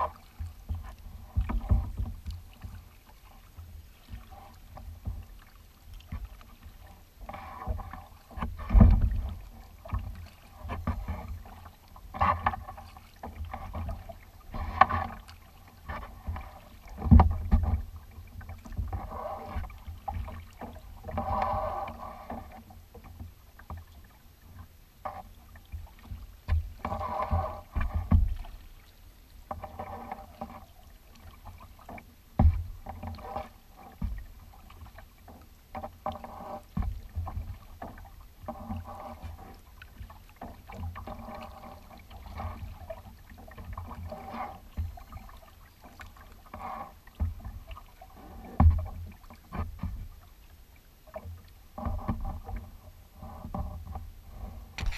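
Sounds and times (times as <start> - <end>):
paddle splashing and dripping: 0.0 - 54.9
water lapping at plastic hull: 0.0 - 54.9.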